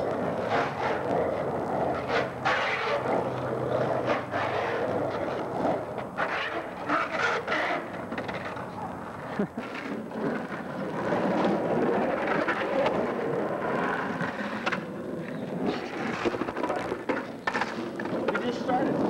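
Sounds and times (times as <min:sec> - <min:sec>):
skateboard wheels rolling on concrete: 0:00.0 - 0:19.0.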